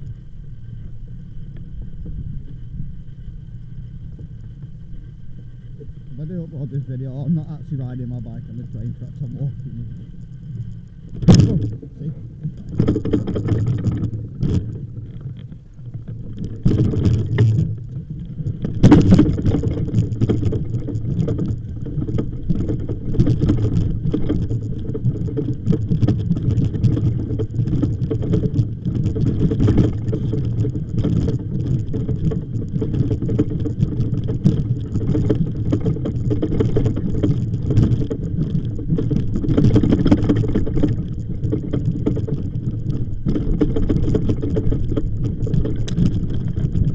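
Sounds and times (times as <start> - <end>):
wind buffeting microphone: 5.8 - 46.9.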